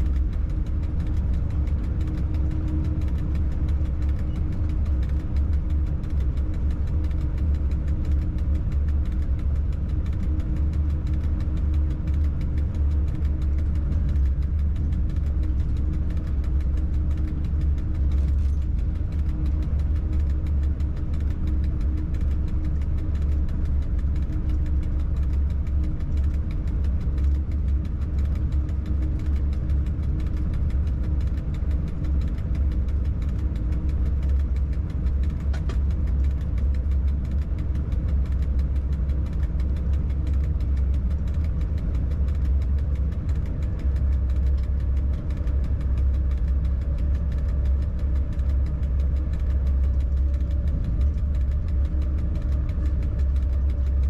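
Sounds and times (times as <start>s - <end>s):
locomotive cab rumble and hum: 0.0s - 54.0s.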